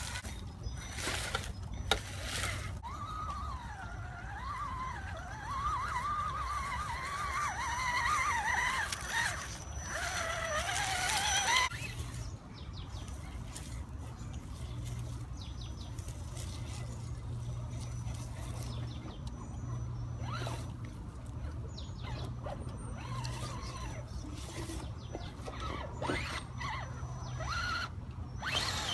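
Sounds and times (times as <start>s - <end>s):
tyres clicking over leaves and sticks: 0.0s - 26.7s
electric motor and gearbox whining: 0.0s - 28.9s.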